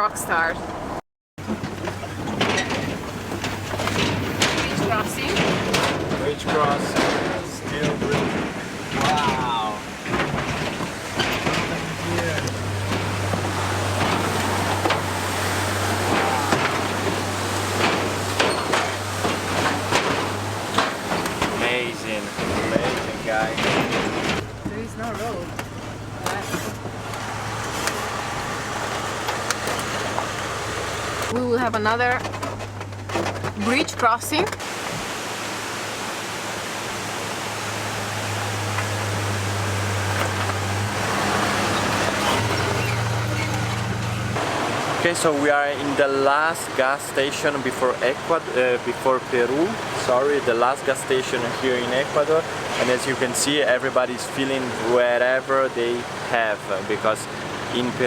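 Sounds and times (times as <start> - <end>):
road noise: 0.0 - 58.0
truck engine drone: 0.3 - 34.8, 36.5 - 58.0
truck knocking and rattling: 0.7 - 34.7, 37.9 - 58.0.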